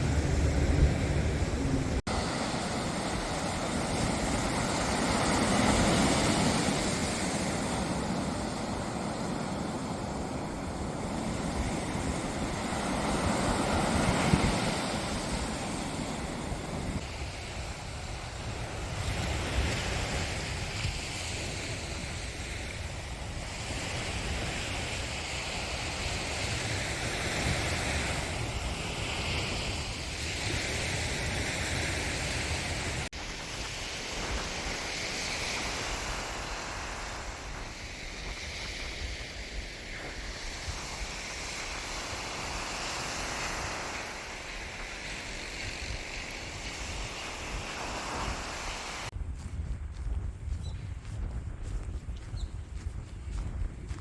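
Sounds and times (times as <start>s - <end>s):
sea waves washing onto shore: 0.0s - 49.2s
wind rumbling on microphone: 0.0s - 54.0s.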